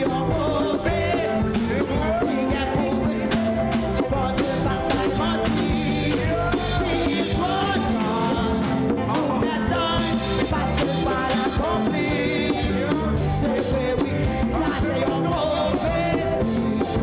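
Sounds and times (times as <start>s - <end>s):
drum kit beat: 0.0s - 17.0s
person singing: 0.0s - 17.0s.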